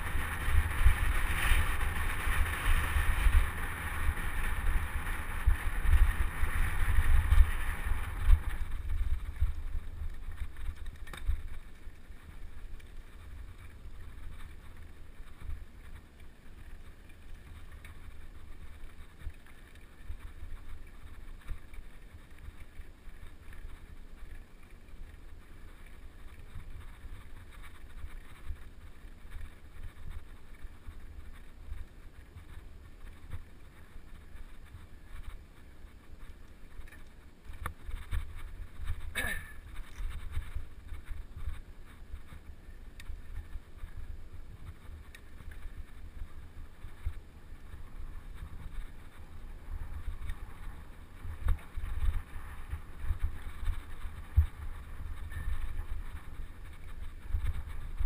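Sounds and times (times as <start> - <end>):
wind rushing over microphone: 0.0 - 14.7, 25.7 - 58.0.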